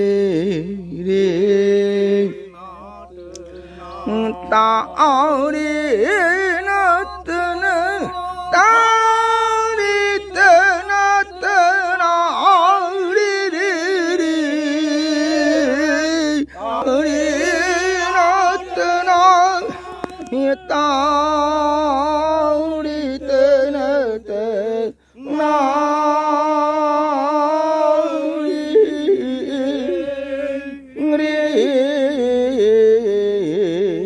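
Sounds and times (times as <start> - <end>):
faint low hum: 0.0 - 34.0
person singing devotional melody: 0.0 - 34.0.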